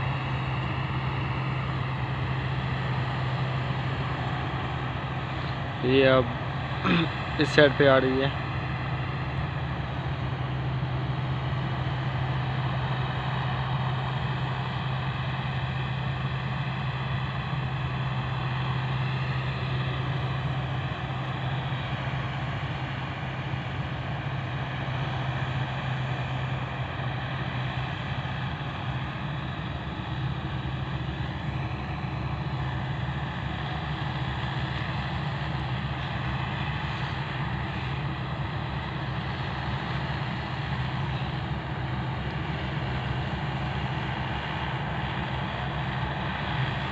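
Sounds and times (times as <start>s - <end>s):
combine harvester engine drone: 0.0s - 46.9s.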